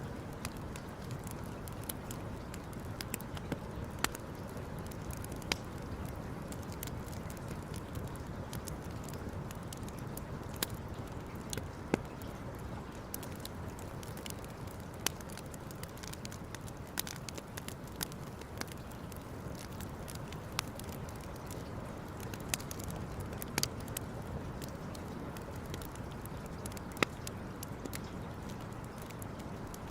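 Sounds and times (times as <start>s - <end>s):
campfire crackling and popping: 0.0s - 29.9s
steady low rush of fire: 0.0s - 29.9s.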